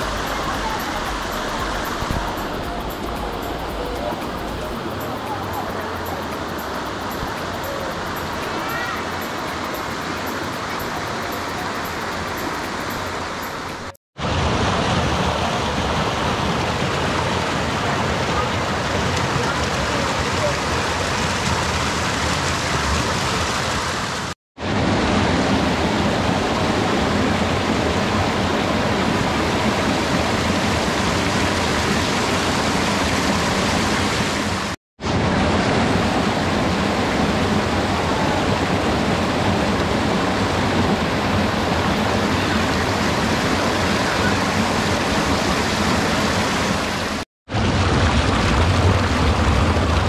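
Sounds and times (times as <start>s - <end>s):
flowing water rushing: 0.0s - 50.0s.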